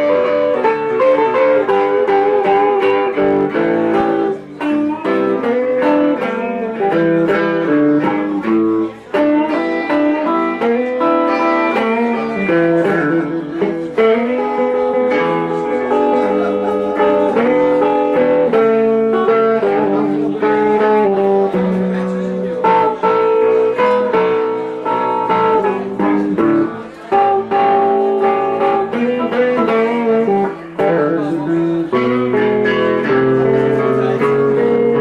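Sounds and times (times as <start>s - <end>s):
blues band playing: 0.0s - 35.0s
electric guitar lead lines: 0.0s - 35.0s.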